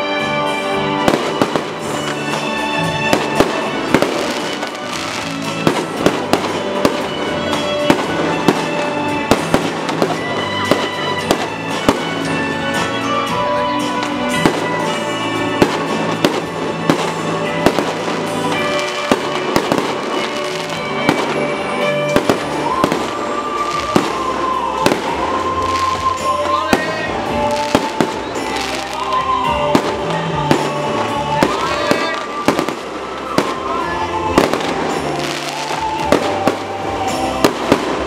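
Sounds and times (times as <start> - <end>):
fireworks bangs and crackles: 0.0 - 38.0
loud music: 0.0 - 38.0.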